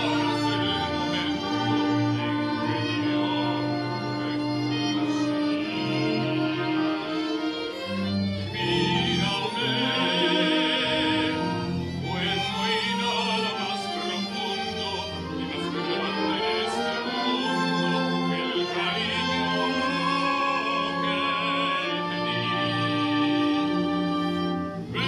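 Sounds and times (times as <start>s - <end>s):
man singing operatically: 0.0s - 7.8s, 8.6s - 23.4s
string orchestra holding notes: 0.0s - 25.0s.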